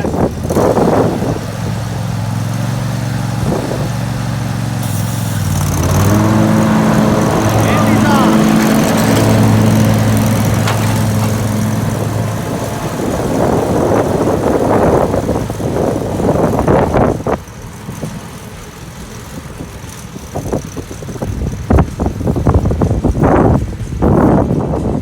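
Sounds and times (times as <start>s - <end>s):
riding mower engine rumble: 0.0s - 25.0s.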